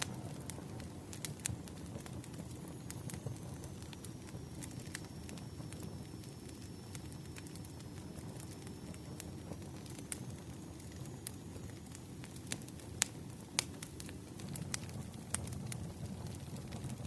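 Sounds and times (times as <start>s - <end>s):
fire crackles and pops: 0.0s - 17.0s
wood fire rumble: 0.0s - 17.0s.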